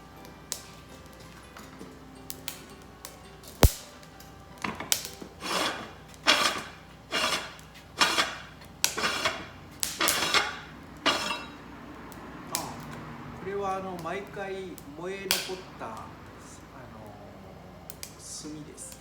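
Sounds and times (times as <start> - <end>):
charcoal lumps clinking together: 0.0 - 19.0.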